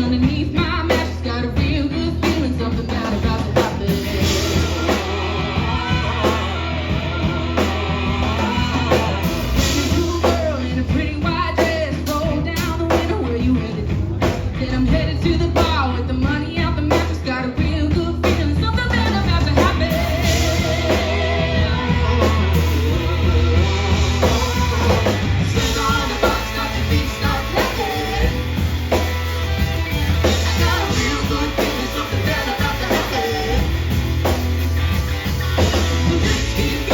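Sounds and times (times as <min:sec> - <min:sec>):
person singing: 0:00.0 - 0:29.0, 0:30.1 - 0:34.1, 0:35.6 - 0:36.9
drums: 0:00.0 - 0:36.9
steady low bass: 0:00.0 - 0:36.9.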